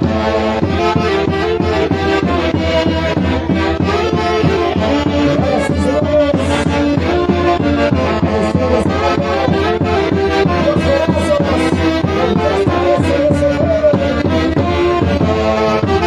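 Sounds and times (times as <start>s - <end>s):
reed and brass wind melody: 0.0s - 16.0s.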